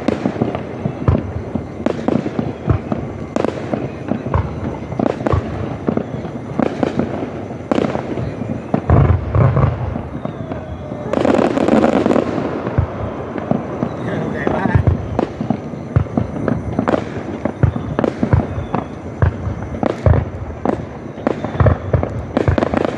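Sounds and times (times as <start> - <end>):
deep firework boom: 0.0 - 22.9
fireworks bangs and crackling: 0.0 - 22.9.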